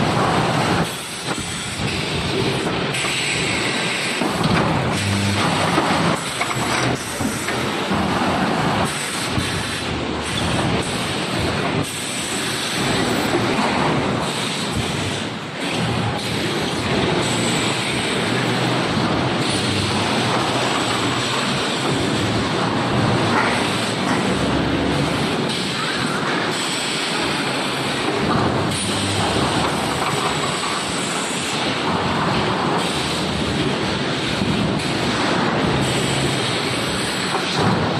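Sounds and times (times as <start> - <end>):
industrial machinery running: 0.0 - 37.9.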